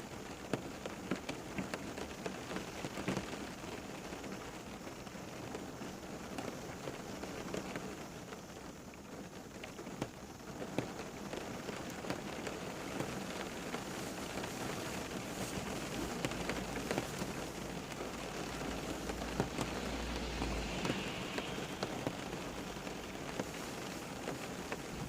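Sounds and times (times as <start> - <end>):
rain falling: 0.0 - 25.0
raindrops pattering on a surface: 0.0 - 25.0.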